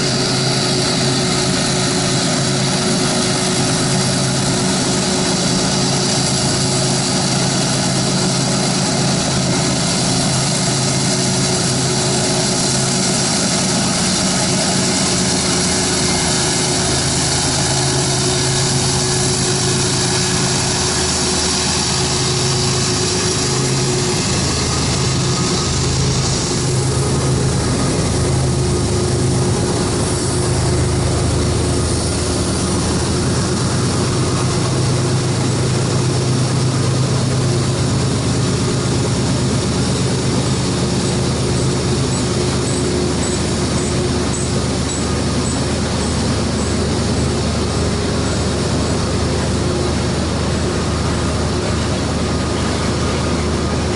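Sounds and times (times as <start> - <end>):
locomotive engine drone: 0.0 - 53.9.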